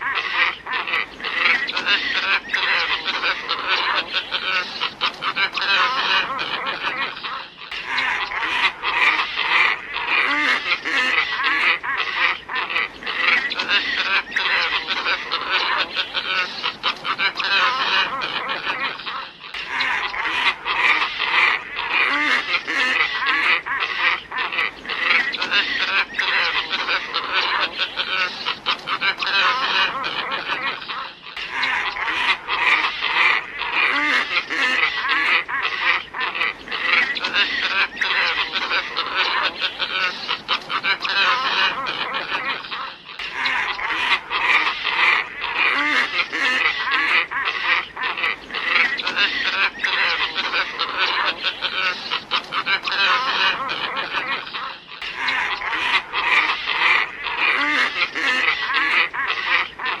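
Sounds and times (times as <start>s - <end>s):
ibis flock calling: 0.0s - 60.0s.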